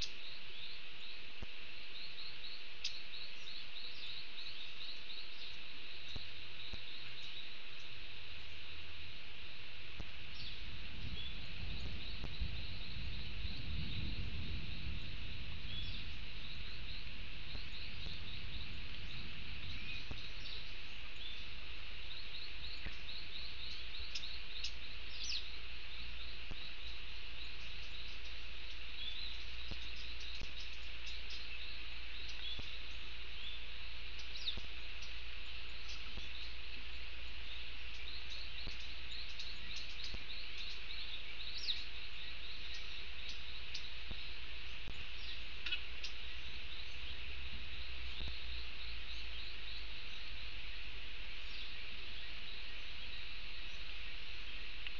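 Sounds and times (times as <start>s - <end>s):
insects chirping: 0.0s - 54.9s
small birds calling: 0.0s - 54.9s.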